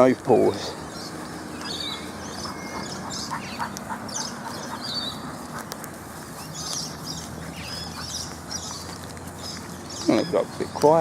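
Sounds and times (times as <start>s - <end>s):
high bird calls: 0.0s - 11.0s
low bird chirps: 0.0s - 11.0s.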